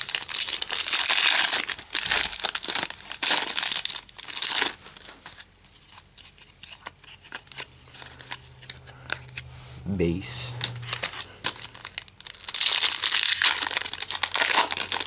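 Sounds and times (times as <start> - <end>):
card wrapper crinkling and tearing: 0.0 - 15.0.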